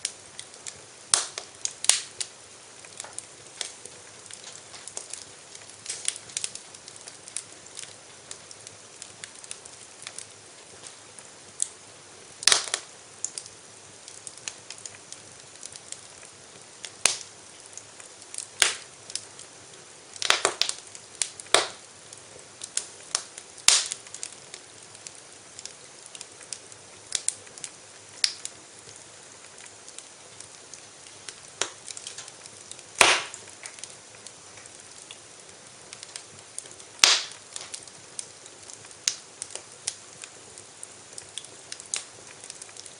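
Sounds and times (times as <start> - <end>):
sharp pops of fire: 0.0 - 42.9
soft steady hiss: 0.0 - 42.9
wood fire crackling: 0.0 - 42.9.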